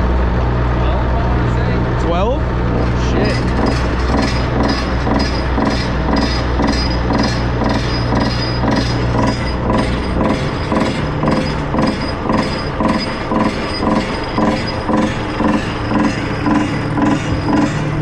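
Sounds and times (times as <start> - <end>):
vibratory pile hammer drone: 0.0 - 18.0
regular mechanical knocking: 2.7 - 18.0.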